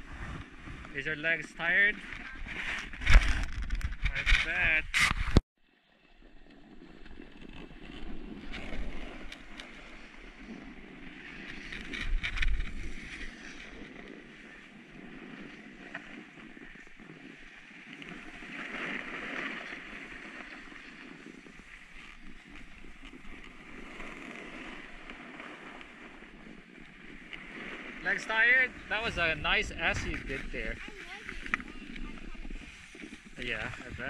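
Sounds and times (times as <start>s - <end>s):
snowboard scraping on snow: 0.0s - 3.5s, 6.4s - 34.0s
wind rushing over microphone: 0.0s - 5.4s, 7.7s - 34.0s.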